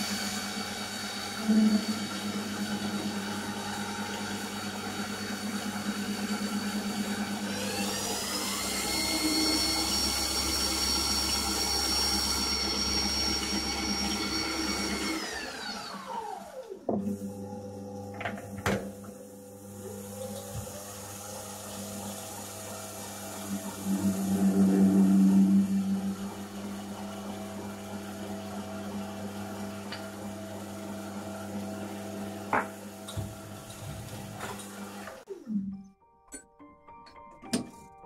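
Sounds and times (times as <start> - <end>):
lathe motor whine: 0.0 - 17.2, 20.6 - 35.2.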